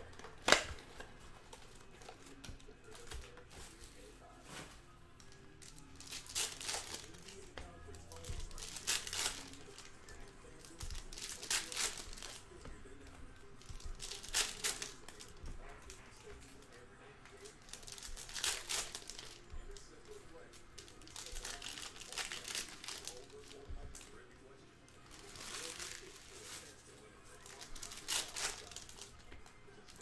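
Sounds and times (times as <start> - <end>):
plastic wrappers tearing and crinkling: 0.0 - 12.8, 13.4 - 16.8, 17.4 - 24.2, 25.0 - 30.0.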